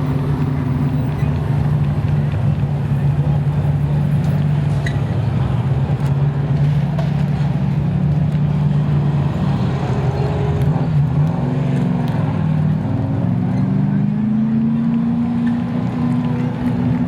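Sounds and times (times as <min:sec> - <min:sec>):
truck engine drone: 0:00.0 - 0:17.0.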